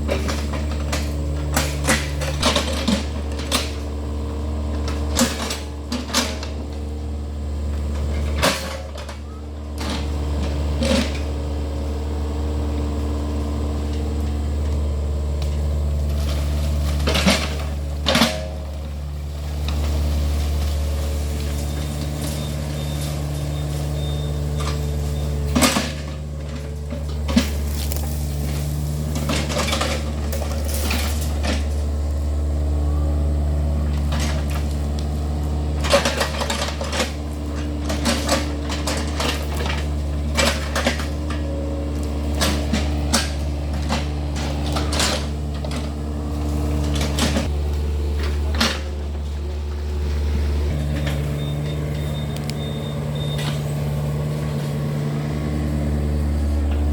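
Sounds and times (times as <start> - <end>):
metallic clanks of excavator bucket: 0.0 - 6.8, 7.8 - 11.4, 15.4 - 32.7, 33.6 - 49.5, 50.7 - 56.9
excavator diesel engine running: 0.0 - 56.9.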